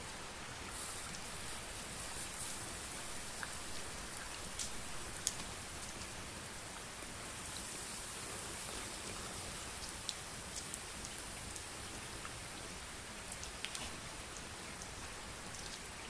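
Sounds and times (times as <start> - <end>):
water dripping on plastic wrap: 0.8 - 6.3, 7.5 - 12.5, 13.2 - 16.0.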